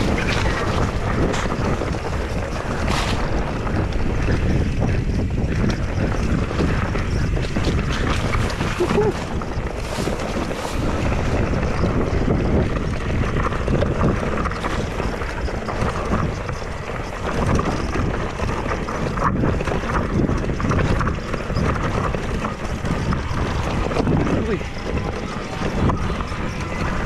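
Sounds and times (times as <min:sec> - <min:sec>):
bike knocking on stones: 0:00.0 - 0:27.0
mountain bike rumbling and rattling: 0:00.0 - 0:27.0
wind rushing over microphone: 0:00.0 - 0:27.0.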